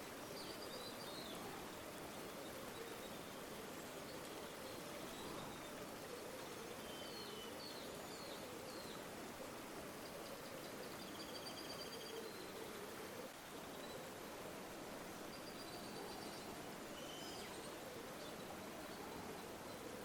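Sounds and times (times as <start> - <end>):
faint bird chirps: 0.1 - 9.1, 9.9 - 14.3, 15.2 - 20.0.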